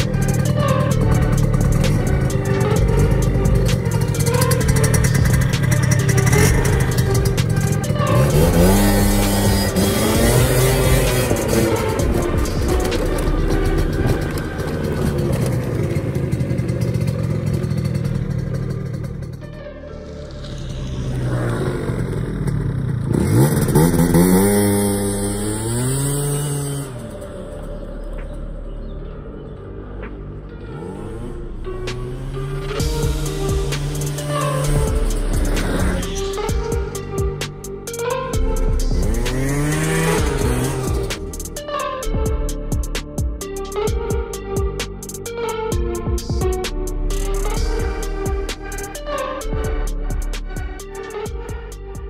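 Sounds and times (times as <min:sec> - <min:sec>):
scooter two-stroke engine running: 0:00.0 - 0:28.0, 0:30.8 - 0:51.6.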